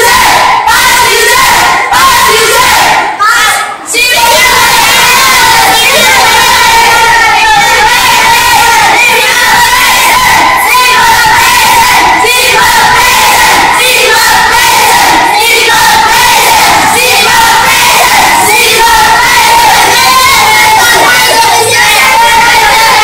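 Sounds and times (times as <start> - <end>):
crowd of young voices shouting: 0.0 - 23.0.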